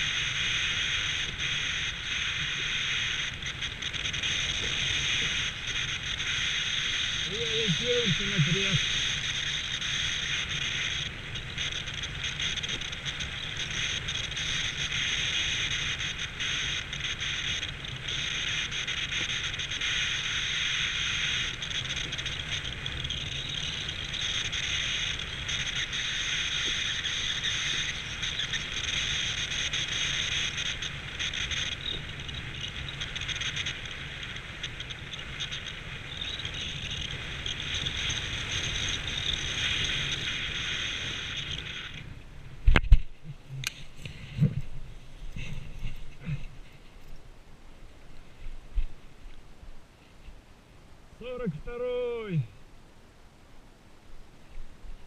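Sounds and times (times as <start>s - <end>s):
wind noise on microphone: 0.0s - 47.2s.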